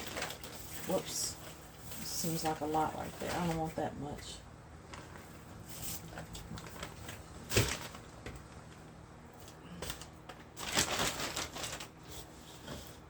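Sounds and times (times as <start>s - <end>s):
packaging crinkling: 0.0s - 3.8s, 4.8s - 8.8s, 9.4s - 12.7s.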